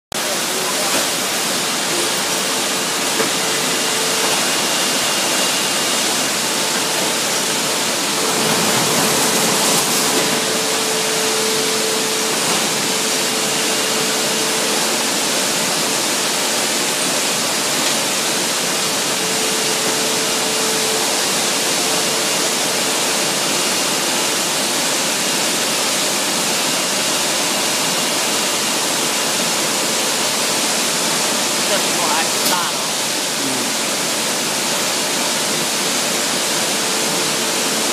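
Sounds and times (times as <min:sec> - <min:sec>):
factory machinery hiss: 0:00.2 - 0:37.9.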